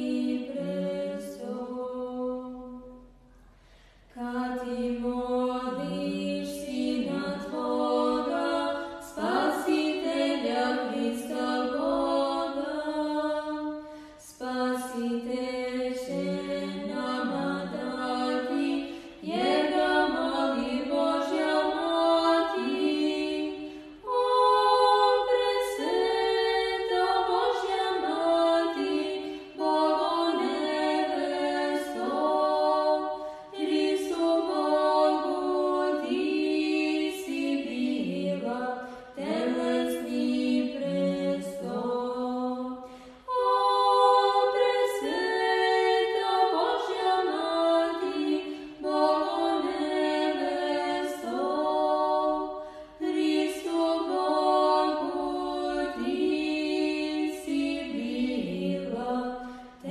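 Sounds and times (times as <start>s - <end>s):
choir singing a hymn: 0.0s - 3.1s, 4.2s - 59.9s.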